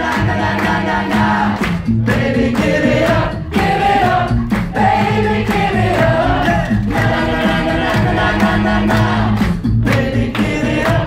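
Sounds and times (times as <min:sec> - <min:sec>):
a cappella group singing: 0:00.0 - 0:11.0.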